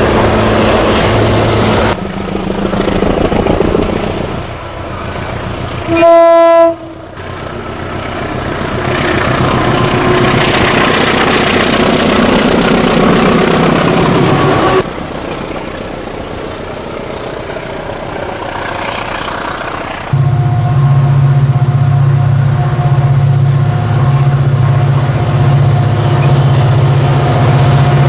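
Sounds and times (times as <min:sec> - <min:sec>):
diesel train engine: 0:00.0 - 0:28.0.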